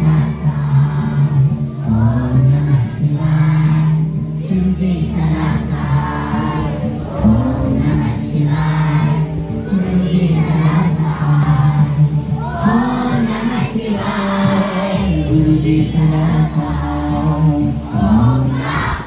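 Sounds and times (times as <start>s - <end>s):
children singing in chorus: 0.0s - 19.0s
steady low drone: 0.0s - 19.0s.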